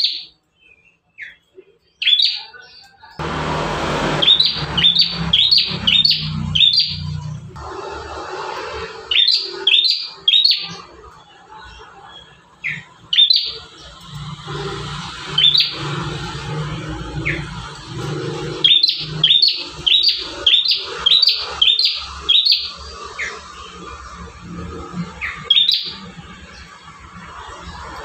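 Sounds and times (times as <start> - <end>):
bird chirping sharply: 0.0 - 3.2, 3.9 - 7.5, 8.7 - 16.4, 17.0 - 23.9, 25.1 - 26.6.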